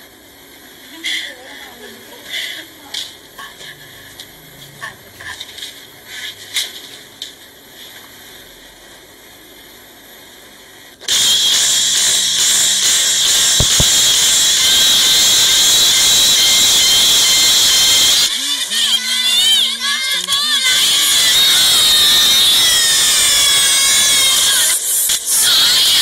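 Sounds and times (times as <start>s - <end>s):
loud static hiss: 0.0s - 26.0s.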